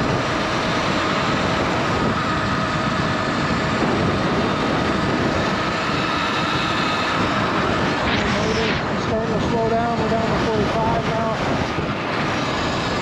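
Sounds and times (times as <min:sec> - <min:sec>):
electric motor whine: 0:00.0 - 0:13.0
wind rushing over microphone: 0:00.0 - 0:13.0.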